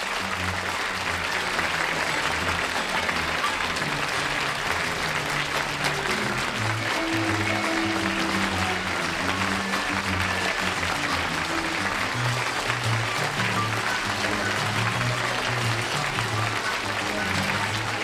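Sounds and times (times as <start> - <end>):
audience applauding: 0.0 - 18.0
theme music with bass notes: 0.0 - 18.0.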